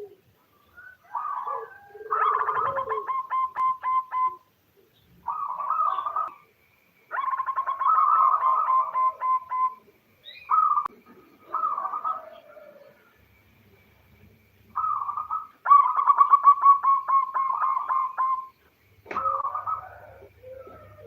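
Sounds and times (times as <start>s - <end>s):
dove cooing: 0.0s - 6.4s, 7.1s - 13.2s, 14.7s - 21.0s.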